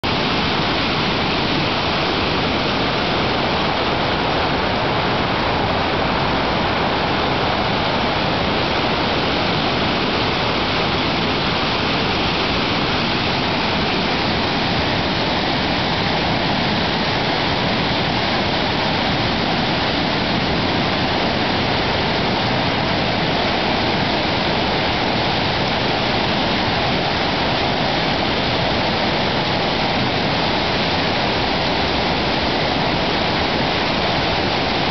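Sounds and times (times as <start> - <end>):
stream rushing: 0.0 - 34.9.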